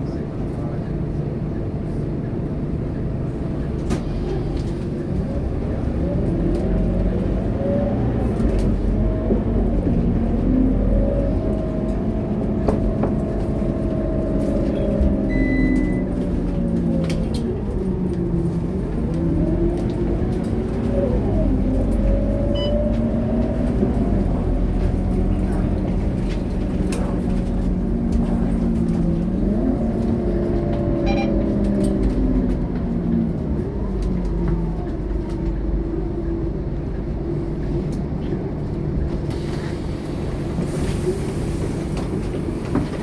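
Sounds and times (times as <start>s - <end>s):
bus diesel engine under load: 0.0s - 43.0s.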